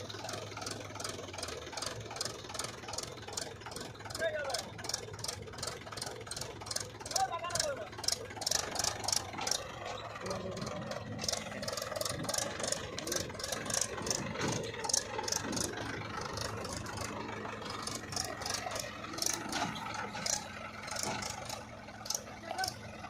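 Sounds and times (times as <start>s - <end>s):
diesel engines humming: 0.0s - 23.0s
sharp rattling clicks: 0.2s - 22.9s.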